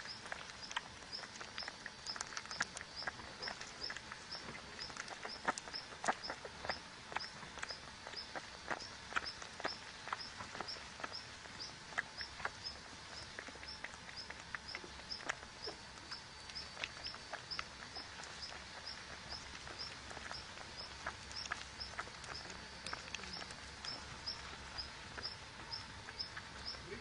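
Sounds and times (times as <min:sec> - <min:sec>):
faint clicks and rustles: 0:00.0 - 0:27.0.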